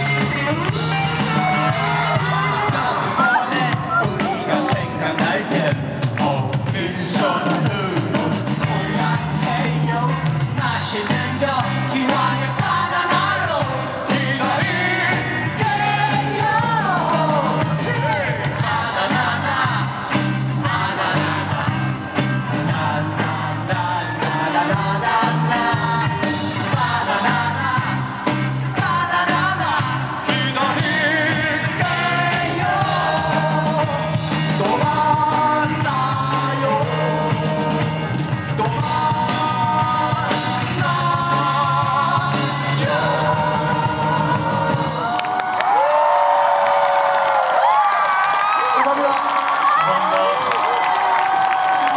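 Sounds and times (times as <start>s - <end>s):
person singing lead vocal: 0.0s - 45.5s
live rock band: 0.0s - 51.9s.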